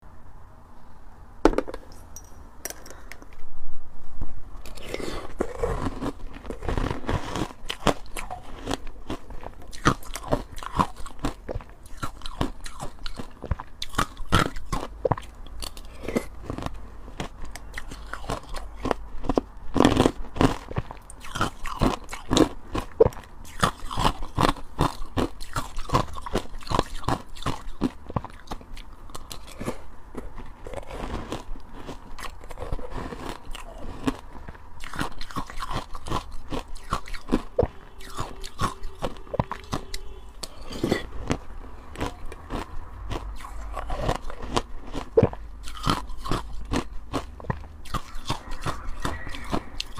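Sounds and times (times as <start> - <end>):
ice crunching while chewed: 4.6 - 49.9.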